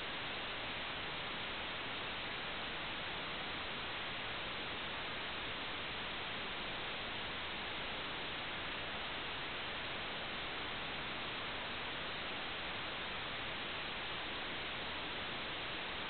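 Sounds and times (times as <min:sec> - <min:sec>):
static hiss: 0:00.0 - 0:16.0.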